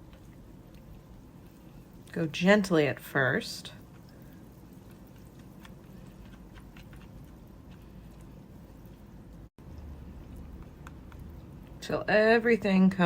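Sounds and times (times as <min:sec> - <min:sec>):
whisk squishing thick dip: 0:00.0 - 0:11.9.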